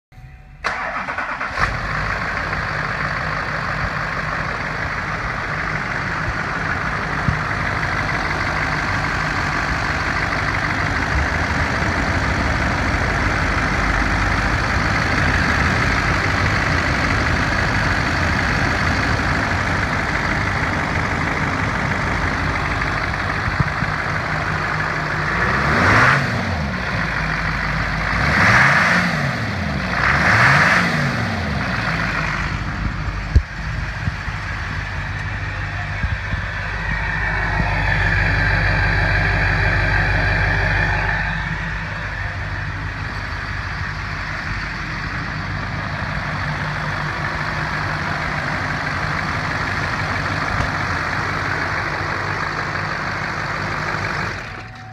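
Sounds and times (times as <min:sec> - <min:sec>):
diesel engine idling: 0:00.2 - 0:54.9
engine revving: 0:00.7 - 0:54.9.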